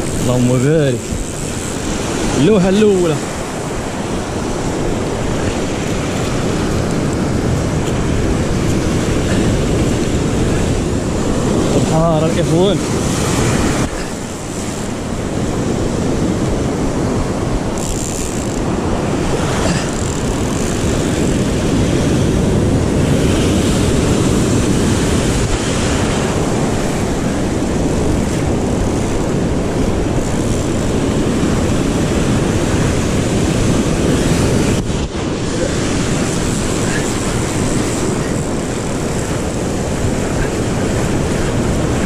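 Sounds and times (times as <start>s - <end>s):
surf breaking on rocks: 0.0s - 42.0s.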